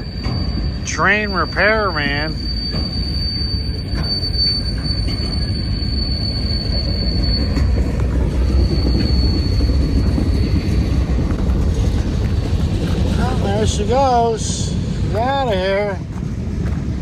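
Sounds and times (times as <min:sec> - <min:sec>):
high wheel squeal: 0:00.0 - 0:16.1
train railcars rumbling: 0:00.0 - 0:17.0.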